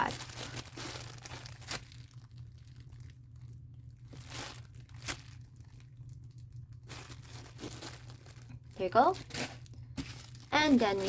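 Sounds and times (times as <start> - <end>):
plastic packaging crinkling: 0.0 - 11.0
steady low hum: 0.0 - 11.0.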